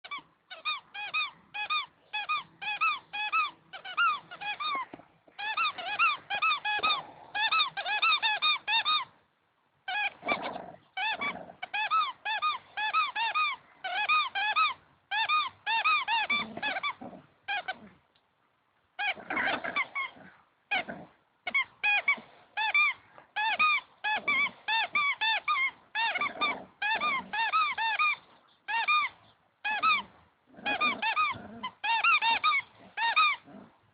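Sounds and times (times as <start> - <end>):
rubber squeaky ball squeaking: 0.0 - 9.1, 9.9 - 17.8, 21.5 - 33.4.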